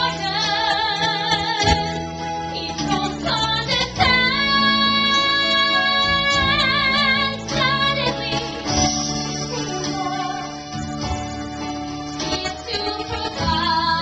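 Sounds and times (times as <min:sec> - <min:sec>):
woman singing: 0:00.0 - 0:10.7, 0:12.2 - 0:14.0
instrumental accompaniment: 0:00.0 - 0:14.0.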